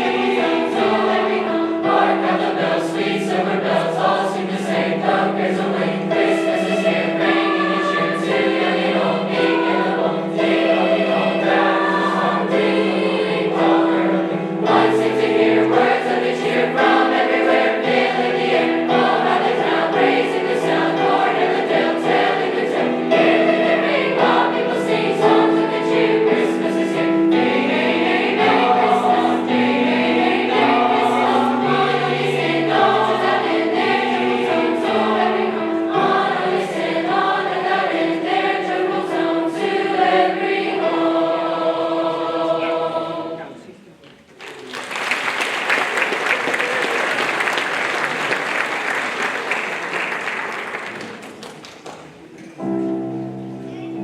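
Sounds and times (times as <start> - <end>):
choir singing: 0.0 - 43.8.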